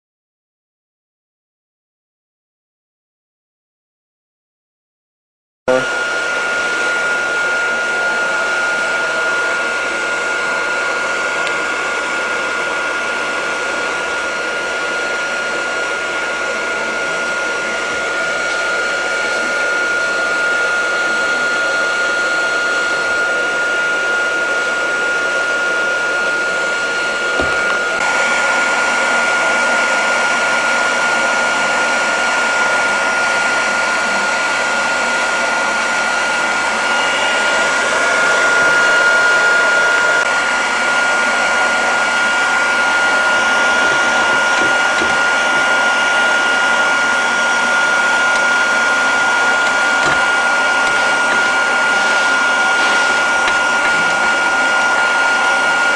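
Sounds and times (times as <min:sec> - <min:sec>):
blower whining: 0:05.7 - 0:55.9.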